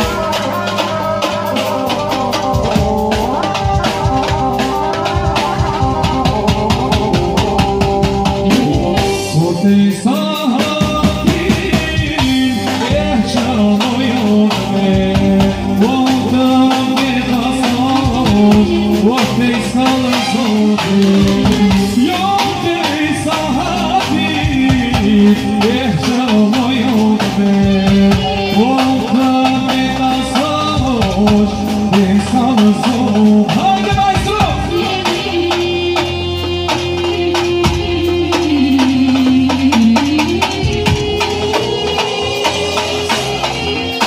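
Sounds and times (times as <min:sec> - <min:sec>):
drum kit beat: 0:00.0 - 0:44.0
electric keyboard: 0:00.0 - 0:44.0
man singing into a microphone: 0:00.0 - 0:44.0
saxophone: 0:00.0 - 0:44.0.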